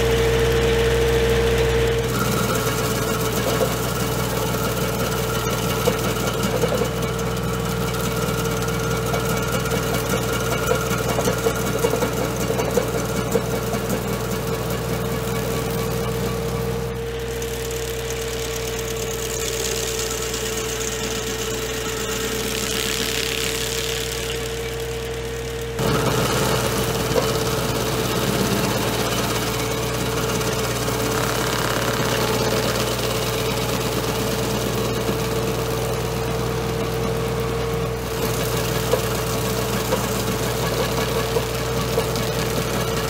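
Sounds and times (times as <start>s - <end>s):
stump grinder whine: 0.0s - 43.0s
tractor engine hum: 0.0s - 43.0s.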